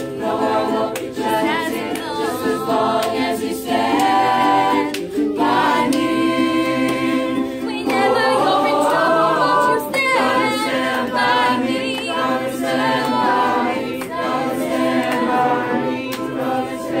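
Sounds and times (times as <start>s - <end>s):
choir singing: 0.0s - 17.0s
female soloist singing: 0.0s - 17.0s.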